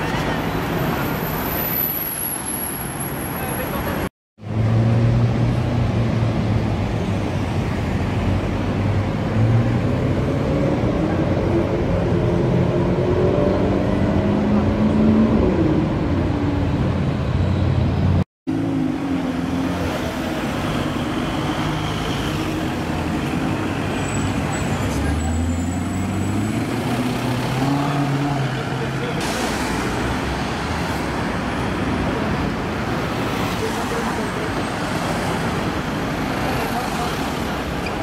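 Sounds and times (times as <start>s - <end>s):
city traffic engines: 0.0s - 38.0s.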